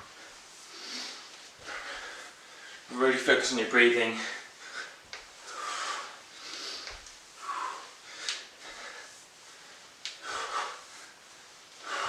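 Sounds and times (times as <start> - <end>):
person breathing hard: 0.0 - 2.9, 4.2 - 12.0.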